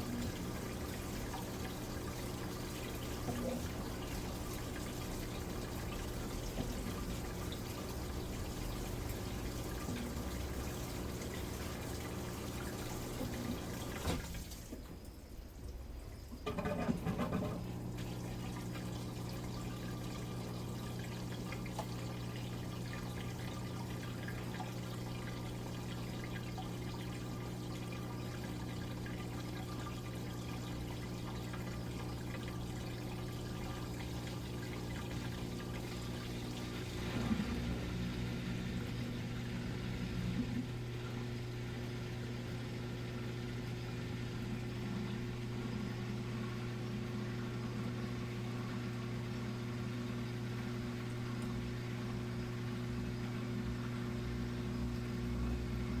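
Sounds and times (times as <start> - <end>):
washing machine hum: 0.0 - 56.0
water moving in washing machine tub: 0.0 - 56.0.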